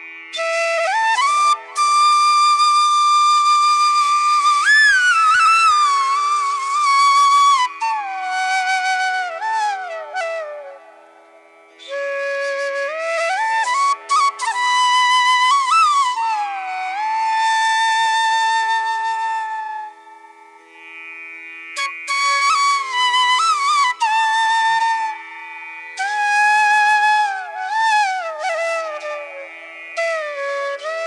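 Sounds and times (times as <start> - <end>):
solo flute melody: 0.0 - 20.8, 21.8 - 31.0.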